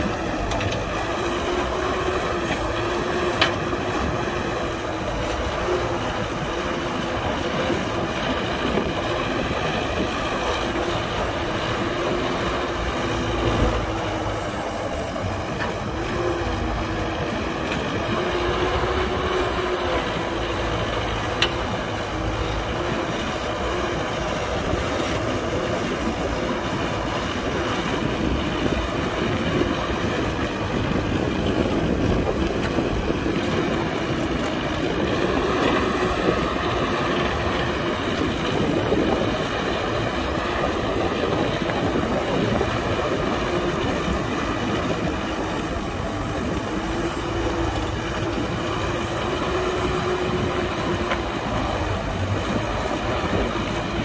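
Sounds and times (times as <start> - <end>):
excavator engine drone: 0.0 - 54.0.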